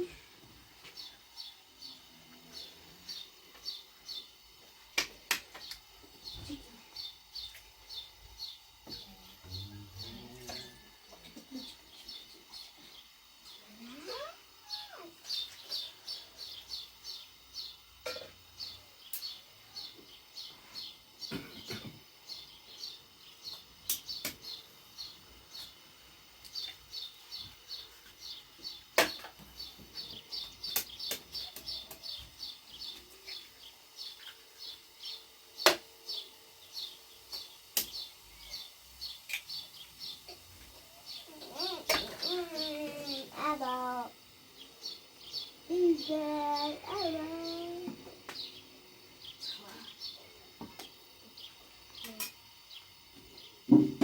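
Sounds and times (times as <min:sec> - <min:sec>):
small bird chirping: 0:05.6 - 0:53.8.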